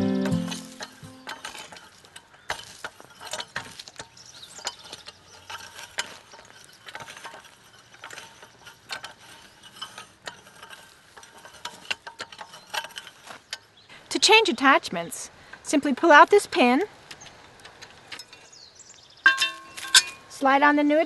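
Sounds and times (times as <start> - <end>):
cultivator tines rattling in soil: 0.0 - 21.0.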